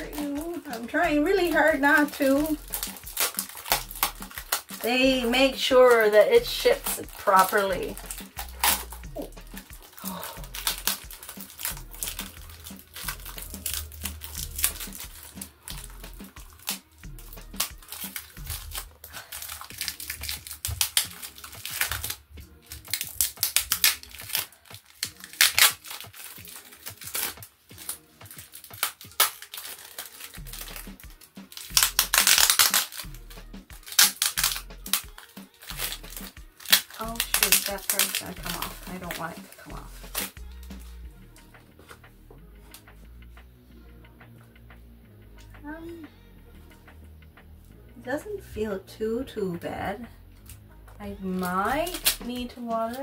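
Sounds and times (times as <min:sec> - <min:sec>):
plastic bag crinkling: 0:00.0 - 0:41.0, 0:51.2 - 0:53.0.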